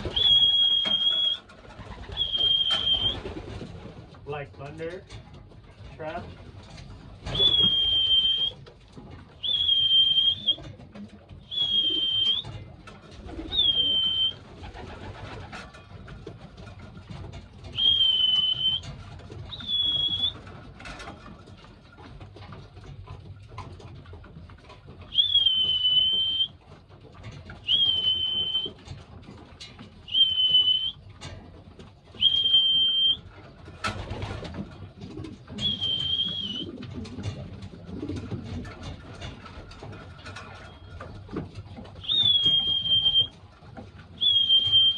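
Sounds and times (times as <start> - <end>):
young pigeons squeaking: 0.0 - 3.6, 6.8 - 44.9
pigeon cooing: 0.0 - 4.0, 7.1 - 21.6, 23.8 - 43.4, 44.0 - 44.9.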